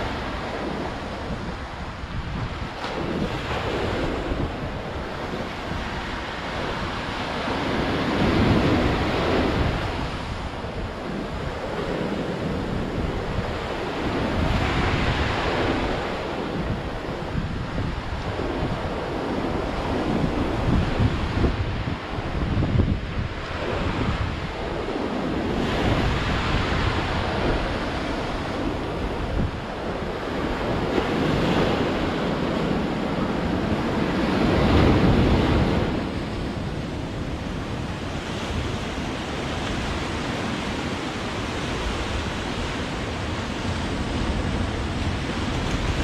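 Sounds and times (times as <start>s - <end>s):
ocean waves breaking on shore: 0.0s - 46.0s.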